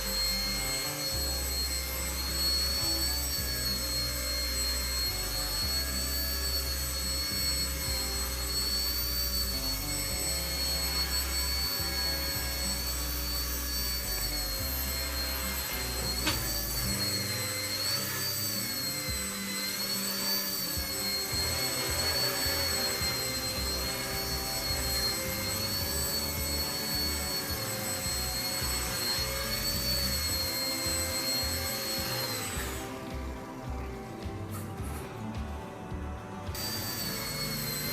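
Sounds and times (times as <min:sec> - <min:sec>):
small electric motors whining: 0:00.0 - 0:37.9.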